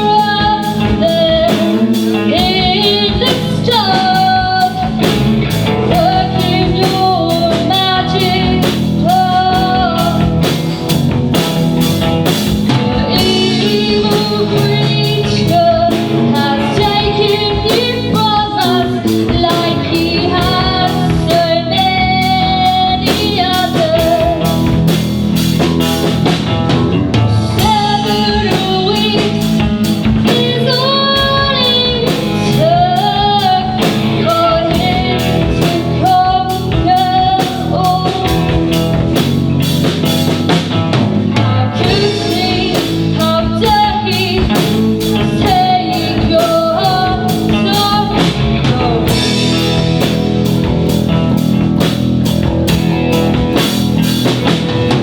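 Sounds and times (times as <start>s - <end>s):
person singing: 0.0s - 10.9s, 12.2s - 25.0s, 27.1s - 39.0s, 41.3s - 50.2s
bass: 0.0s - 55.0s
drum kit beating: 0.0s - 55.0s
guitar: 0.0s - 55.0s.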